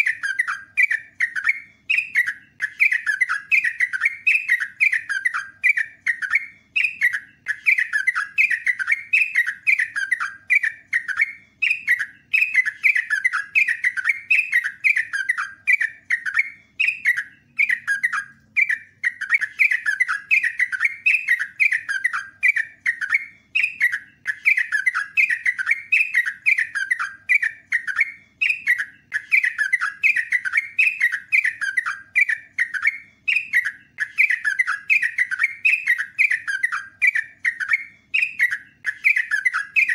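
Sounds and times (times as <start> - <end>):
bird singing rolling song: 0.0 - 39.9.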